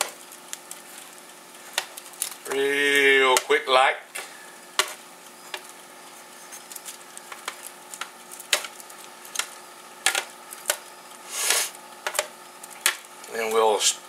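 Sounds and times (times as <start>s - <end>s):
faint sizzling: 0.0s - 14.0s.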